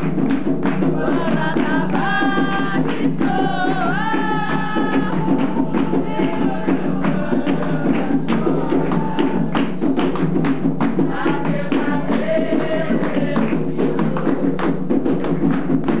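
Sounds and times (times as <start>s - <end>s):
group of voices singing: 0.0s - 16.0s
hand drums beating: 0.0s - 16.0s.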